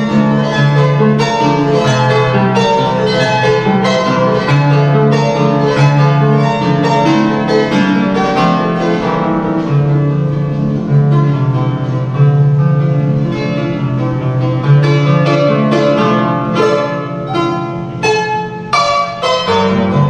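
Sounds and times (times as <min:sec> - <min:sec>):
harp melody: 0:00.0 - 0:10.9, 0:13.2 - 0:20.0.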